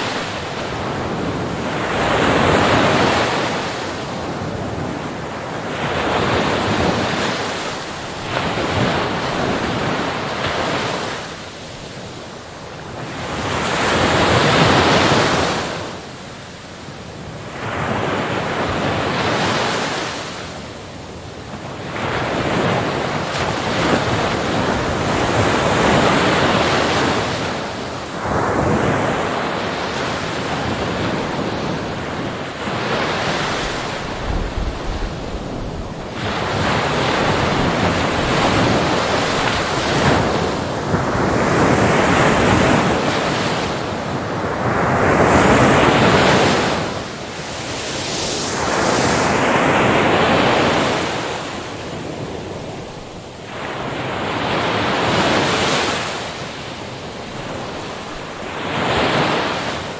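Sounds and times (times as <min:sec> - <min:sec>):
ocean waves breaking: 0:00.0 - 0:16.6, 0:17.2 - 0:59.9
wind noise on microphone: 0:00.0 - 0:59.9.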